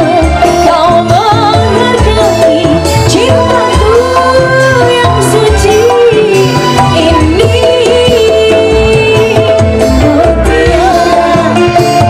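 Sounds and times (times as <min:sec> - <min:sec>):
band with bass and drum beat: 0:00.0 - 0:12.0
woman singing into microphone: 0:00.0 - 0:12.0.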